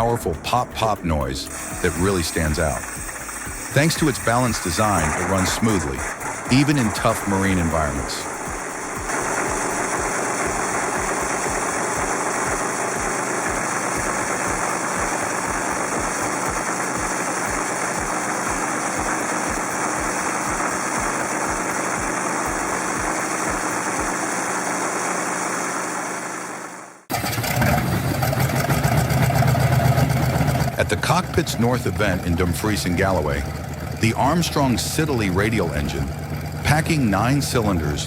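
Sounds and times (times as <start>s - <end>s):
deeper louder engine: 0.0s - 24.7s, 27.2s - 38.0s
radial engine running: 0.0s - 38.0s.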